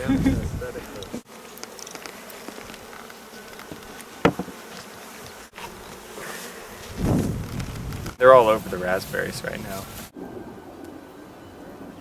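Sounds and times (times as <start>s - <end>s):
honeybee colony buzzing: 0.0s - 10.2s.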